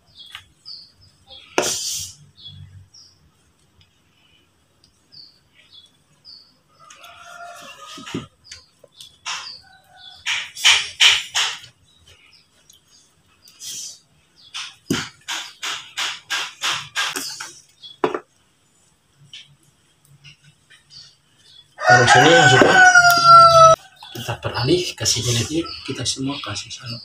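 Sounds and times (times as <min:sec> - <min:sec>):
small bird chirping: 0:00.0 - 0:18.1, 0:19.2 - 0:21.9, 0:22.8 - 0:27.0.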